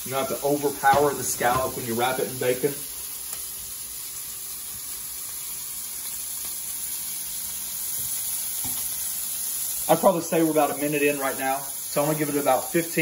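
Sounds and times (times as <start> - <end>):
scallops sizzling in oil: 0.0 - 13.0.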